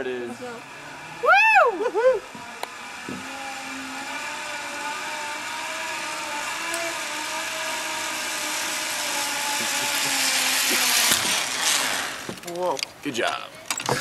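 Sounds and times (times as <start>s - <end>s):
zip line pulleys whining on cable: 0.0s - 14.0s.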